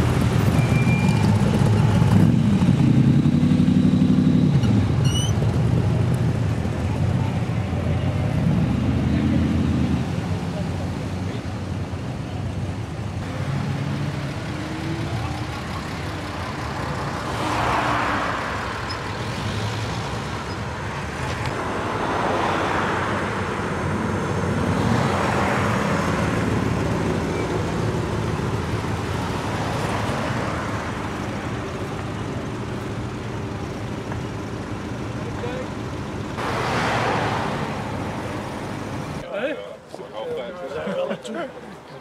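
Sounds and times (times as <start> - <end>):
cars driving past: 0.0 - 39.3.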